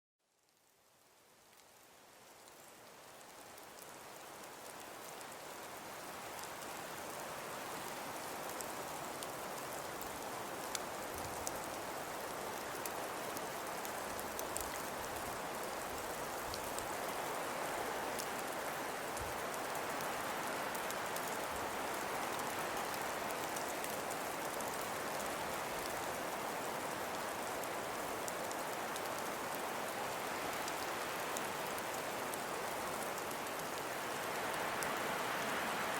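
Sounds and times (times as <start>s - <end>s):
soft steady hiss of snowfall: 0.2s - 35.9s.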